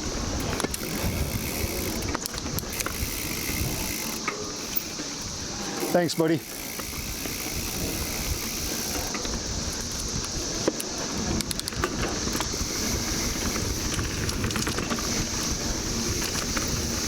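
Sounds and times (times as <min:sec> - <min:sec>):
wind on microphone: 0:00.0 - 0:04.2, 0:06.8 - 0:17.0
bike clicks and rattles: 0:00.0 - 0:17.0
bike tyres rumbling on dirt: 0:00.0 - 0:17.0
cicada chorus drone: 0:00.0 - 0:17.0.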